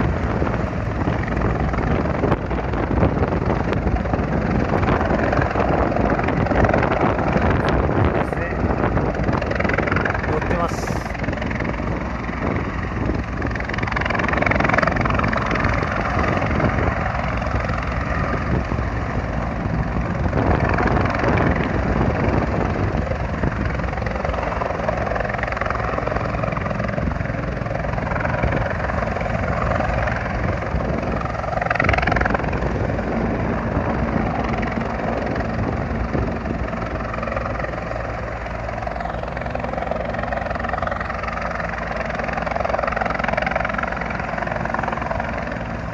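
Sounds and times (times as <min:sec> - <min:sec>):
helicopter rotor and turbine: 0:00.0 - 0:45.9.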